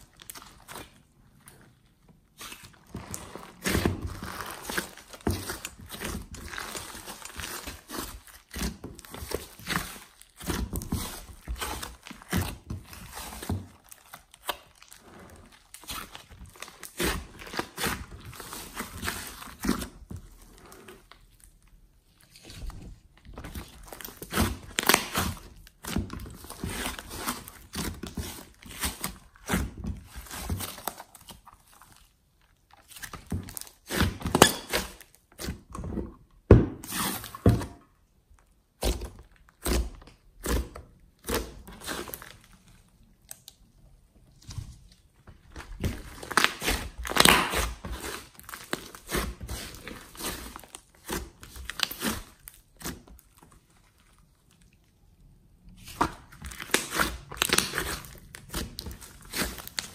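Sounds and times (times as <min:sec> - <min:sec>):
slime squishing: 0:00.0 - 0:59.9.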